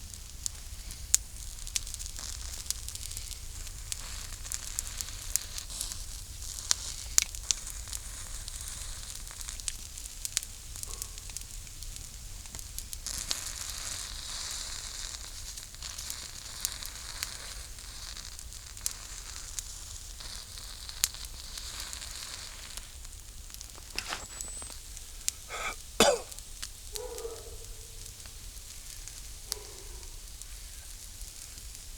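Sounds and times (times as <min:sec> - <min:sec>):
burning wood popping and crackling: 0:00.0 - 0:31.9
food sizzling over a fire: 0:00.0 - 0:31.9.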